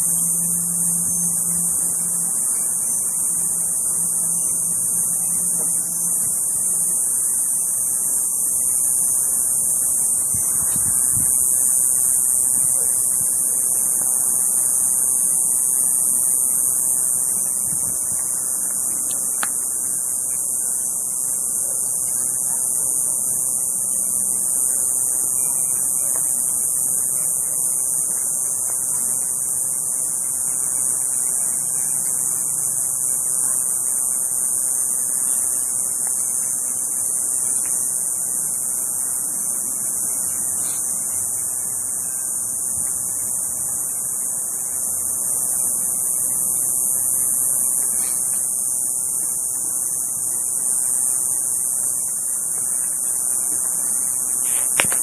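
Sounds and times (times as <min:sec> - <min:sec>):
cicadas buzzing: 0:00.0 - 0:55.0.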